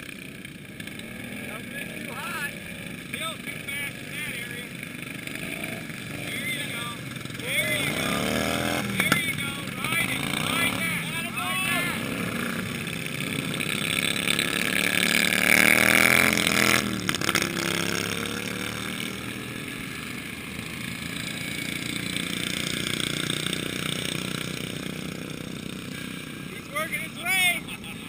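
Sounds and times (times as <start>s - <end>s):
lawn tractor engine passing by: 0.0s - 28.0s
mower engines droning: 0.0s - 28.0s.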